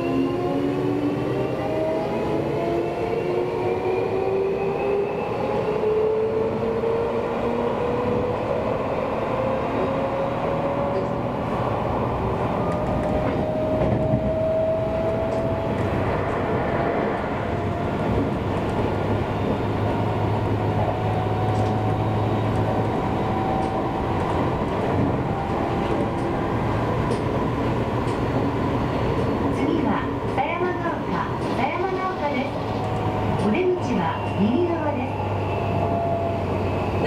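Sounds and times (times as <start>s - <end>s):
electric train rumbling: 0.0s - 37.0s.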